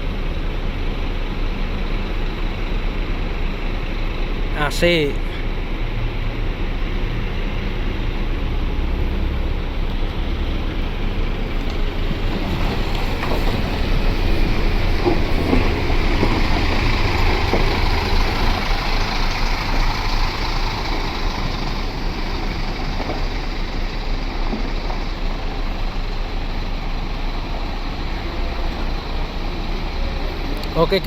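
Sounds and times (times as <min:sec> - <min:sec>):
diesel bus engine rumbling: 0:00.0 - 0:31.0.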